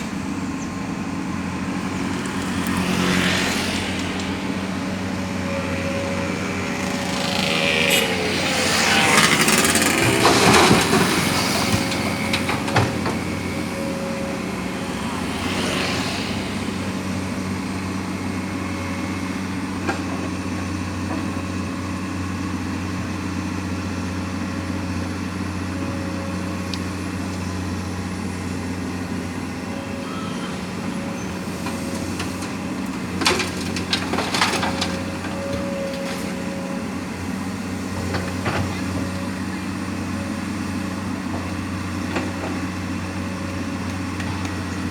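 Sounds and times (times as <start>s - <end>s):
heavy diesel machinery drone: 0.0s - 44.9s.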